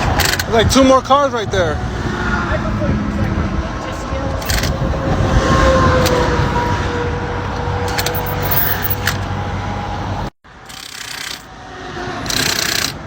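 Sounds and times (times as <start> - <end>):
highway traffic passing: 0.0 - 13.0.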